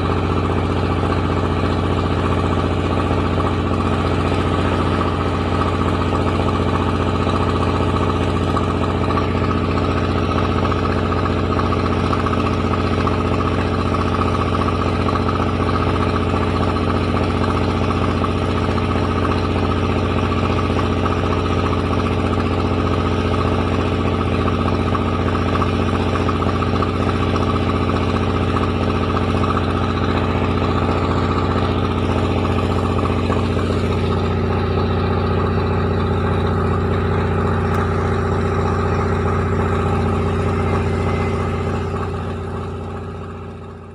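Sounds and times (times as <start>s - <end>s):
rice milling machine running: 0.0s - 43.9s.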